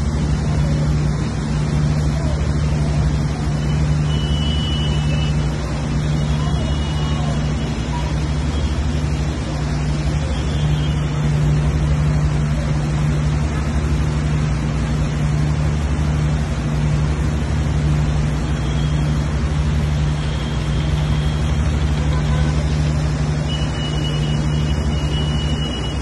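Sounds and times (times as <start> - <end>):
heavy rain downpour: 0.0 - 26.0.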